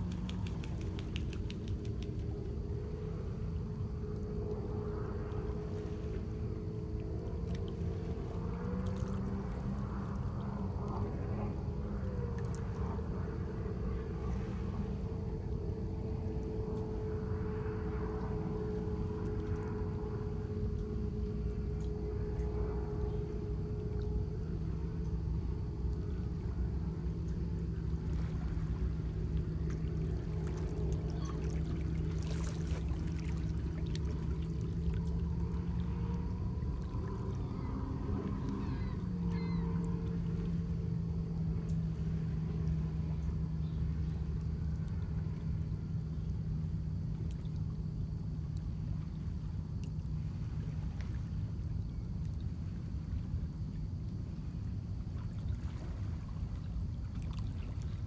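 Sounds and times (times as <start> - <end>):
low engine hum: 0.0 - 58.0.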